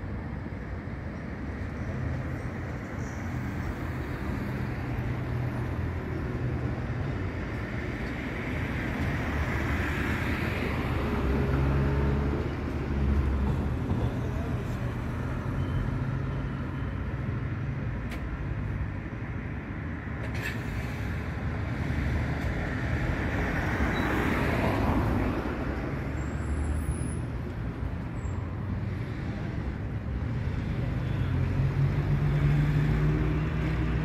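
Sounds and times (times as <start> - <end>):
road traffic with engine hum: 0.0 - 34.0.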